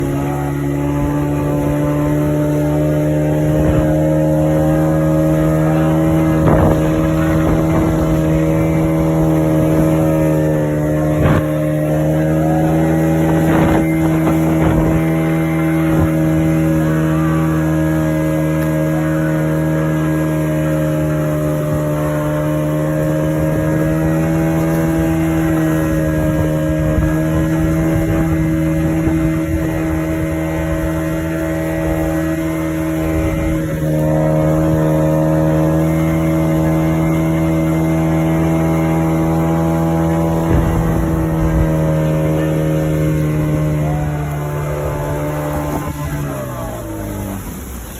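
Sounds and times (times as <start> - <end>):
motorboat engine droning: 0.0 - 47.9.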